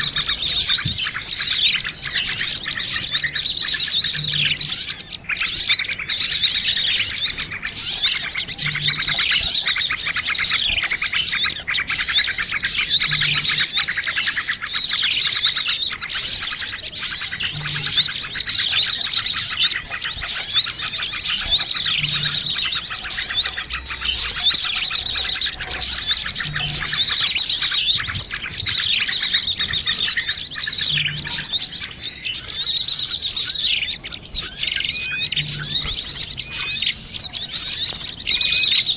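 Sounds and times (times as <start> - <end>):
small birds chirping chorus: 0.0 - 38.9.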